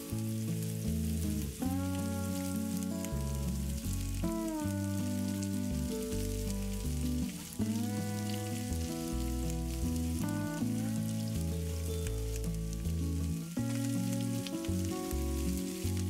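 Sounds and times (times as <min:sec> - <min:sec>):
background music sustained chords: 0:00.0 - 0:16.0
food sizzling in oil: 0:00.0 - 0:16.0.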